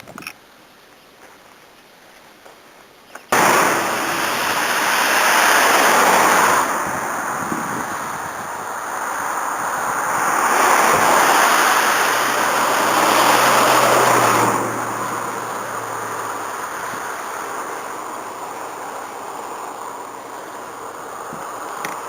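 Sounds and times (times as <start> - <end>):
rushing noise: 3.3 - 22.0.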